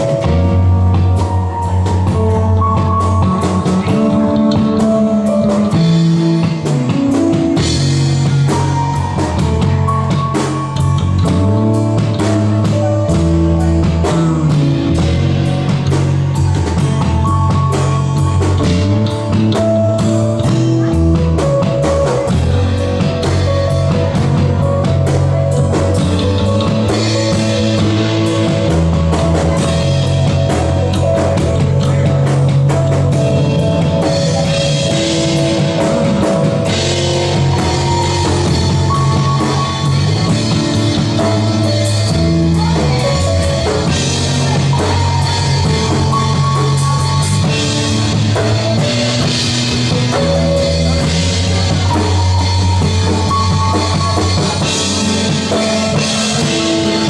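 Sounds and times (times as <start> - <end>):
drum kit beat: 0.0 - 57.0
guitar notes: 0.0 - 57.0.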